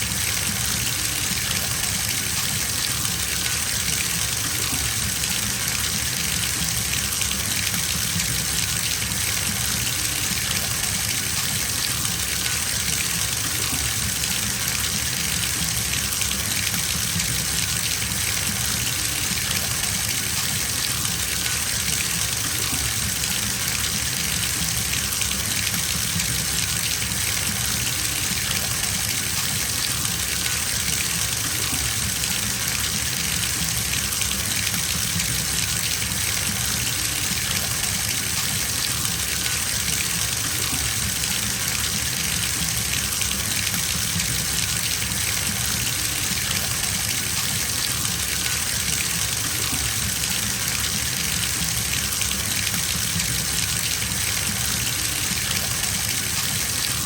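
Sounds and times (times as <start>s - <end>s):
tap water filling a bathtub: 0.0s - 57.0s.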